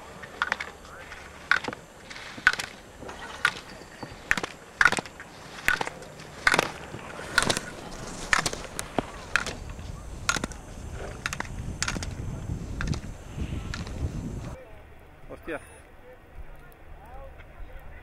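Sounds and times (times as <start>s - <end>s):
ski edges scraping on snow: 0.0s - 14.6s.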